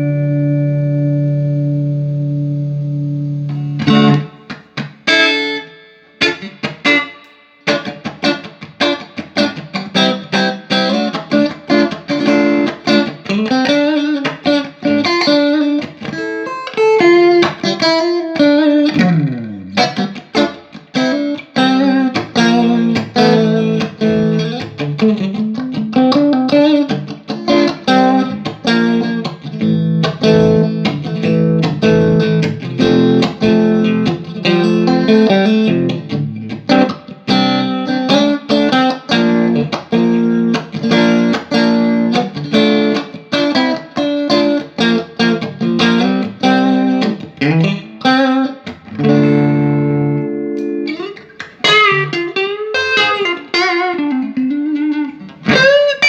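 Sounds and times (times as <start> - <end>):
bent guitar notes: 0.0 - 56.0
electric guitar chords: 0.0 - 56.0.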